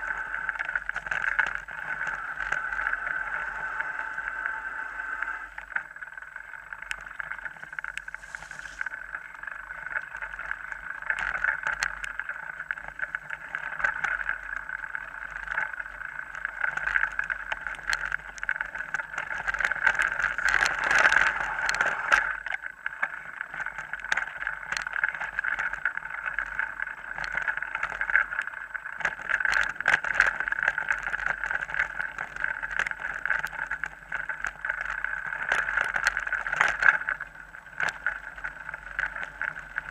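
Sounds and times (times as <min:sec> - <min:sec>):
wind and tyres rushing: 0:00.0 - 0:39.9.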